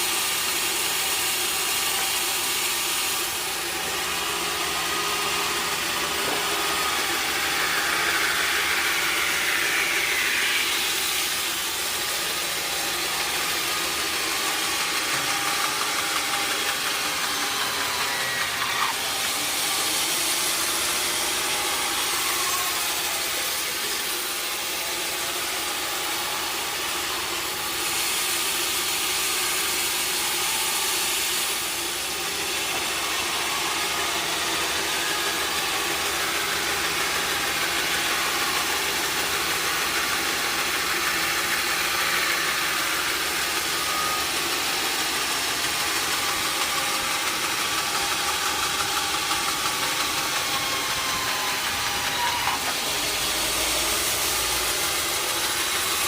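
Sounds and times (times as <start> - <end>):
sawmill machinery hum: 0.0 - 56.0
machinery hissing: 0.2 - 56.0.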